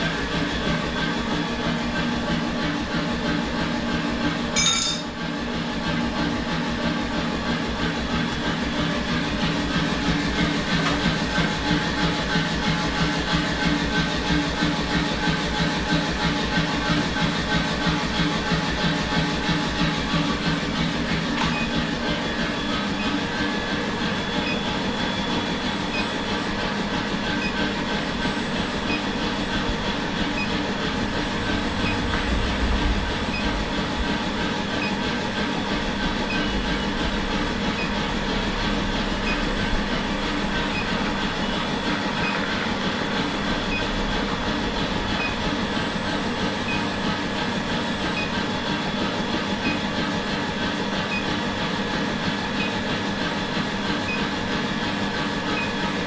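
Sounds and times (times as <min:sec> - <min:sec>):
workshop machinery humming: 0:00.0 - 0:56.0.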